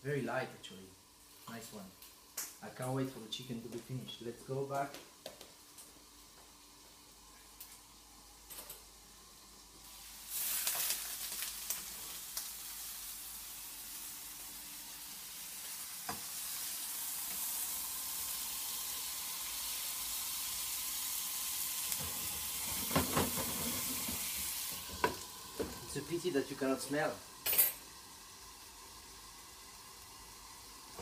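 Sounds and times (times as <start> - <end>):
food sizzling in a frying pan: 0.0 - 31.0.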